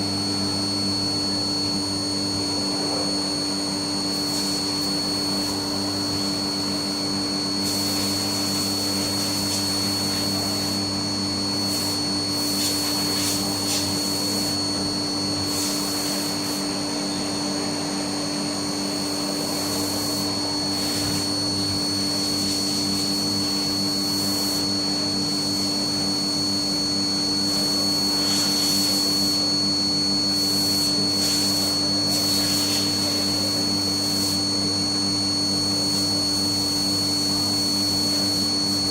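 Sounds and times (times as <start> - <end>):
milling machine high whine: 0.0 - 38.9.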